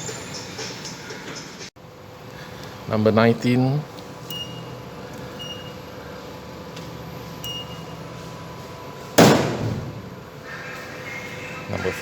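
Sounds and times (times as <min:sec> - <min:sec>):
vending machine humming: 0:01.8 - 0:12.0.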